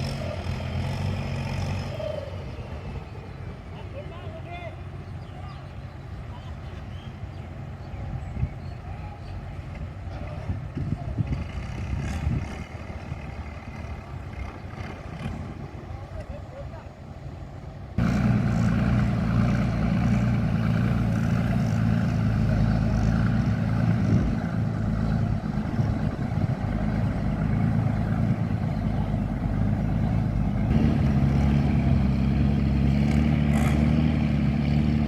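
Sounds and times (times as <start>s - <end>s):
diesel railcar engine running: 0.0s - 35.0s.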